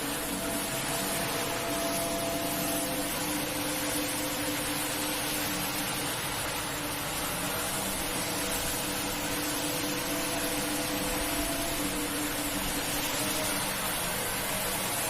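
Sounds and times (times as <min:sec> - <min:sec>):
hissing rush: 0:00.0 - 0:15.0.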